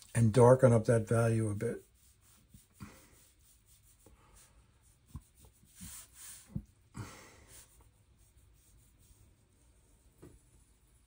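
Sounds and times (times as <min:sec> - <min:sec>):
brush strokes on paper: 0:00.0 - 0:11.0.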